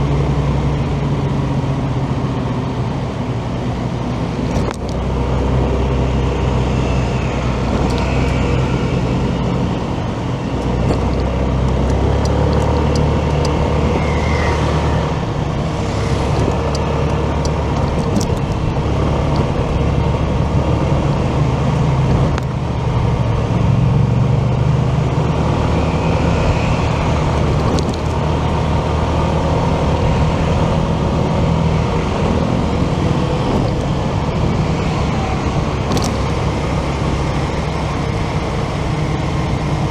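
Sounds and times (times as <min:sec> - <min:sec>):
road and traffic noise: 0:00.0 - 0:39.9
motorcycle engine running: 0:00.9 - 0:39.9.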